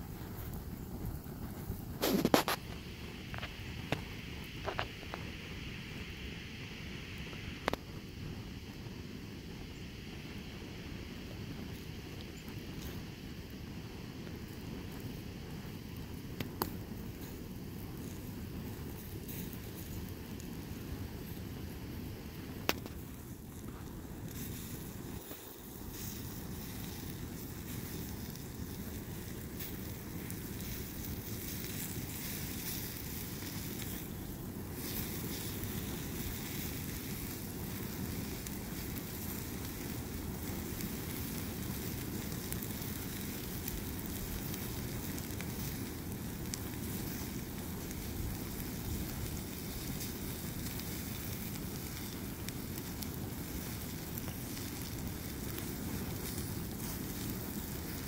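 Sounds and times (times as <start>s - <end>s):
flames rushing and crackling: 0.0s - 58.0s
wind rumble on microphone: 0.0s - 58.0s.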